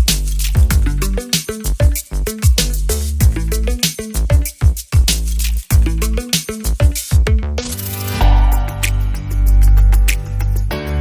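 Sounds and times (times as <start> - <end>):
background music with drums and synth: 0.0 - 11.0.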